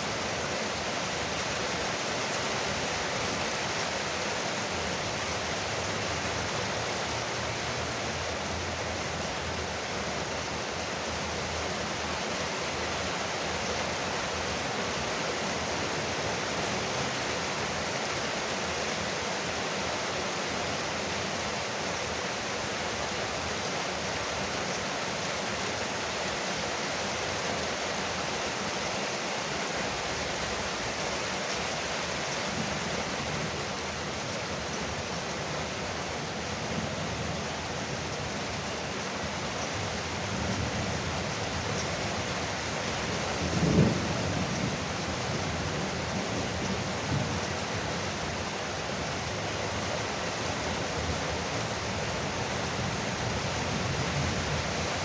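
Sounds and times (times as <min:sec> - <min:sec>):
rain on a porch roof: 0:00.0 - 0:55.0.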